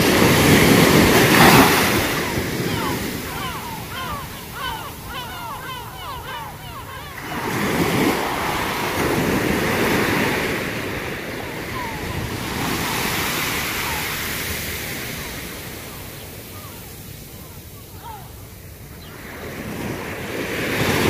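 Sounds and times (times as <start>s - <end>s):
small waves breaking on sand: 0.0s - 21.0s.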